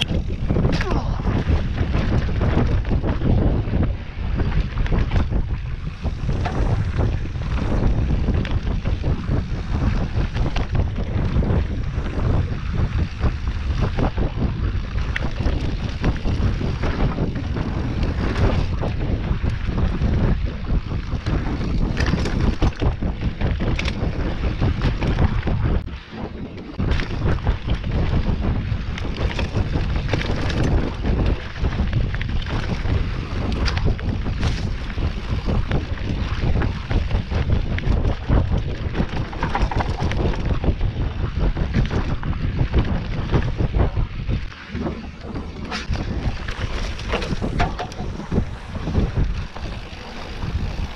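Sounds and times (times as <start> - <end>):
bike clicks and rattles: 0.0 - 50.9
tyres rumbling on dirt trail: 0.0 - 50.9
wind buffeting microphone: 0.0 - 50.9.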